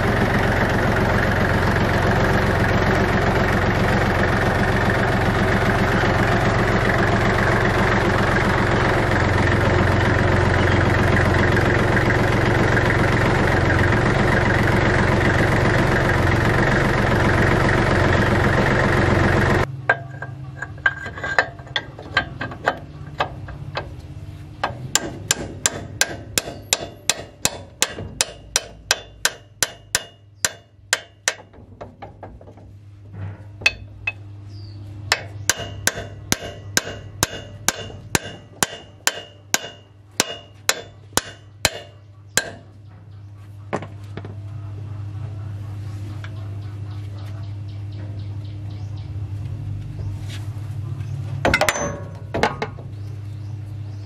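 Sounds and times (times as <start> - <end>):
loud engine running: 0.0 - 54.0.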